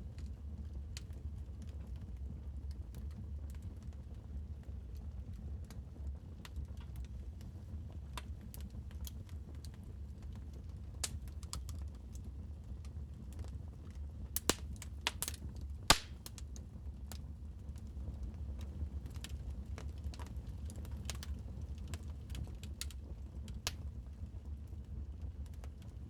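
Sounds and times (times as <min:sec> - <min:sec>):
low rumble of burning fire: 0:00.0 - 0:26.0
wood fire popping and snapping: 0:04.8 - 0:26.0.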